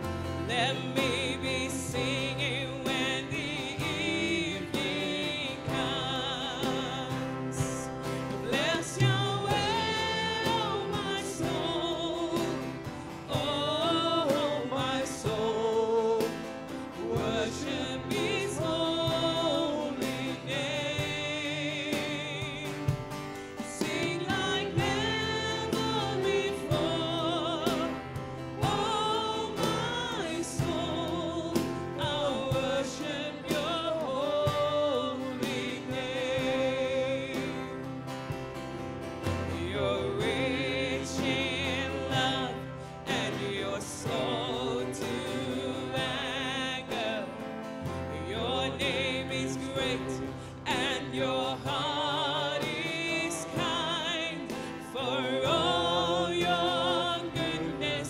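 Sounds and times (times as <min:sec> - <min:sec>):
worship band playing: 0:00.0 - 0:58.0
singer with vibrato: 0:00.2 - 0:37.9, 0:39.4 - 0:58.0.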